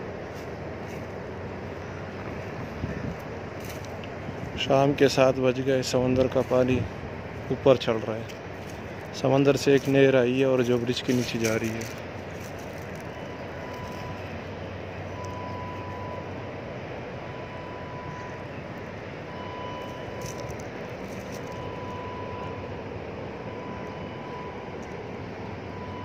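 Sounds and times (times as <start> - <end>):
distant machinery and traffic rumble: 0.0 - 26.0.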